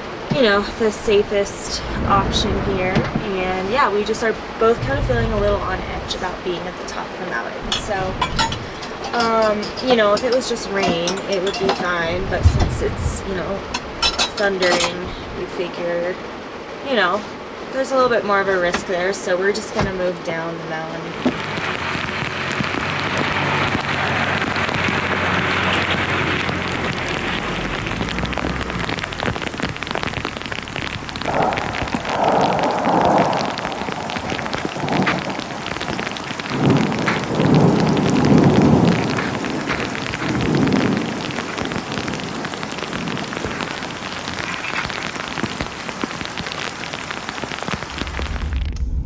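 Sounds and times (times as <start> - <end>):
thunder rolling: 0.0 - 16.4, 21.1 - 49.0
heavy rain: 0.0 - 49.0.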